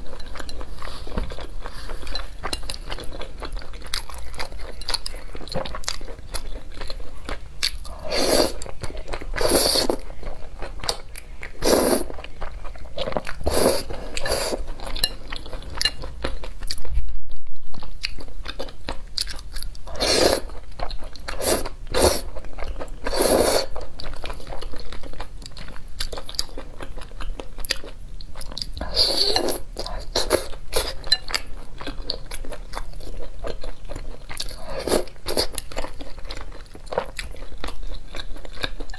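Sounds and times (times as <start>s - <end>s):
wet chewing and slurping noodles: 0.0s - 16.9s, 17.7s - 38.9s.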